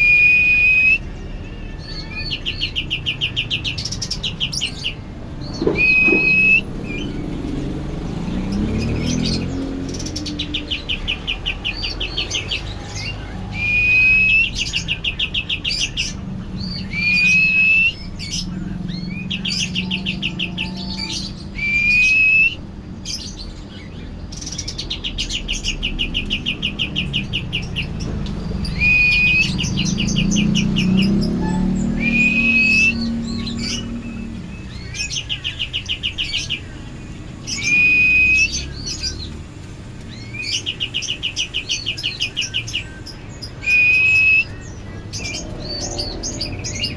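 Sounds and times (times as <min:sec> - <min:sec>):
songbird trill and whistle: 0:00.0 - 0:07.3, 0:08.6 - 0:39.4, 0:40.0 - 0:46.9.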